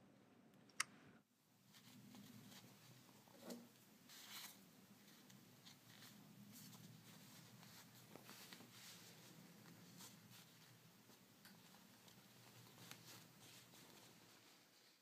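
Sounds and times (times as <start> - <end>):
faint room hum: 0.0 - 15.0
fabric rustling: 1.6 - 15.0.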